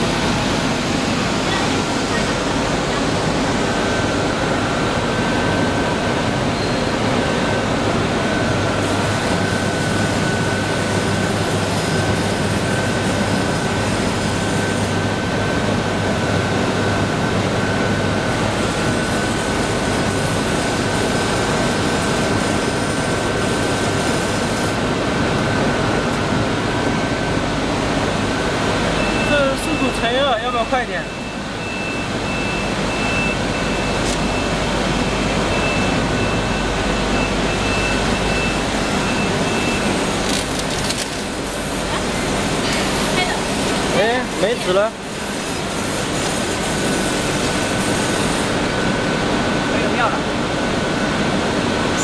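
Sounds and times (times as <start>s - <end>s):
printing machine whirring: 0.0s - 52.0s.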